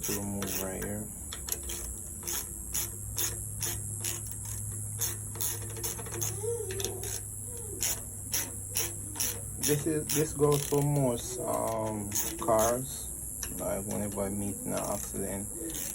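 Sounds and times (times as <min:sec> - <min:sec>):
ratcheting screwdriver clicking: 0:00.0 - 0:15.9
steady low hum: 0:00.0 - 0:15.9.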